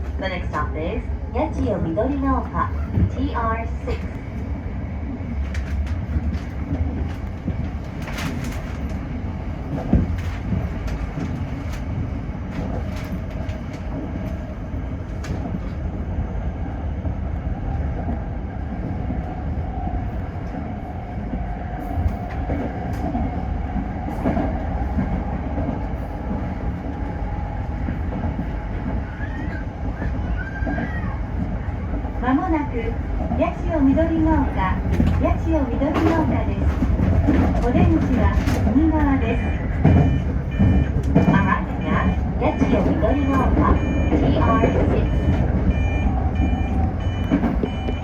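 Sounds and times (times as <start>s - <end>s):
electric train rumbling: 0.0s - 48.0s.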